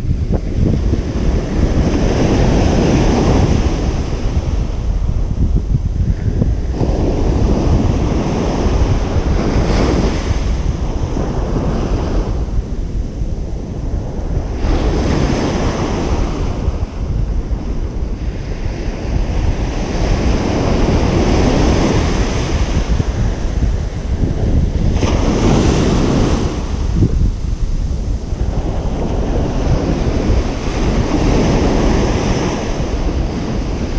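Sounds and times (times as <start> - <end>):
ocean surf breaking on beach: 0.0 - 33.9
wind rumble on microphone: 0.0 - 33.9.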